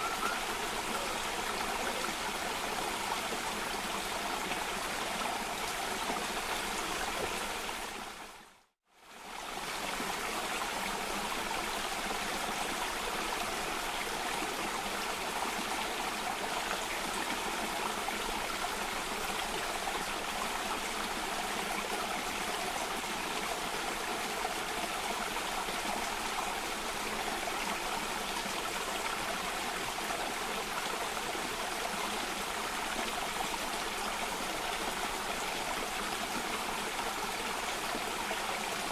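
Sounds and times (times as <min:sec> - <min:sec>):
water cascading in a stream: 0:00.0 - 0:38.9.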